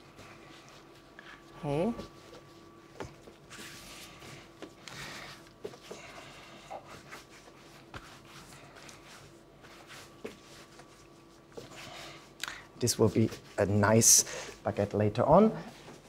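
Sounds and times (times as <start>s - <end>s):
hands kneading dough: 0.0s - 14.6s
faint steady hum: 0.0s - 16.0s.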